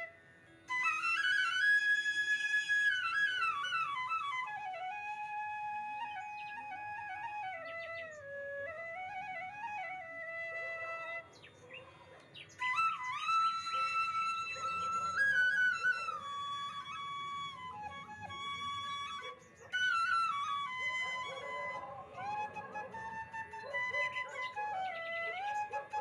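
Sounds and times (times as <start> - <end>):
solo flute melody: 0.0 - 11.7, 12.4 - 26.0.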